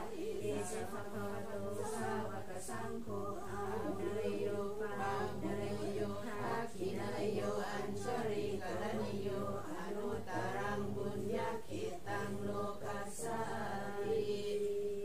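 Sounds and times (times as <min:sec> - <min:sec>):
woman chanting melodically: 0:00.0 - 0:15.0.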